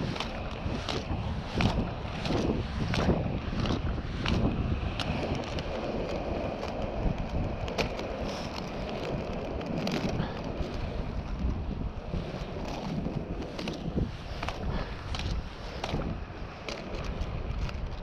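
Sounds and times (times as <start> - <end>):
skate wheels rolling over asphalt: 0.0 - 18.0
wind buffeting microphone: 0.0 - 18.0.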